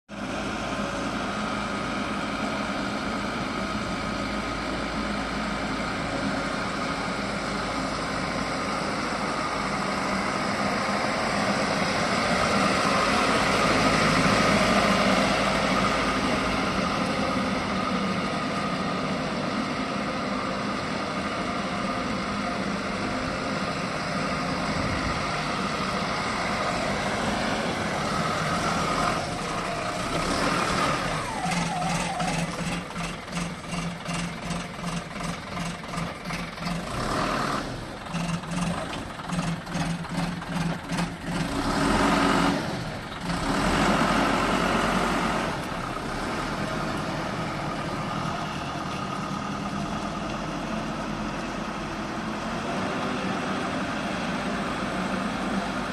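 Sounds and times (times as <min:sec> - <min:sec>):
backhoe diesel engine running: 0:00.1 - 0:55.9.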